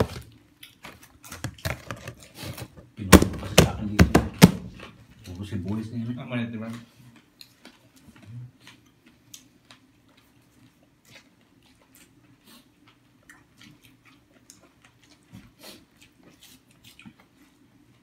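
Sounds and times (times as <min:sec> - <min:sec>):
people chewing food: 0:00.0 - 0:02.7, 0:04.8 - 0:18.0.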